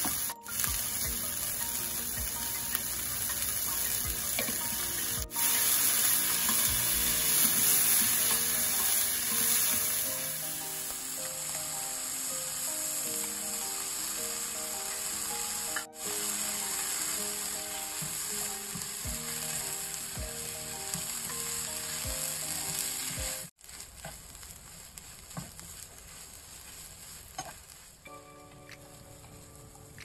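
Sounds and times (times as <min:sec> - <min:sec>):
food sizzling in frying pan: 0:00.0 - 0:27.9.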